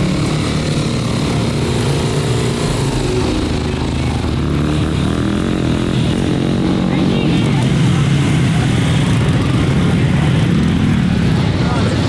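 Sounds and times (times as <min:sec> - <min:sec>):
dirt bike engines running hard: 0:00.0 - 0:12.0.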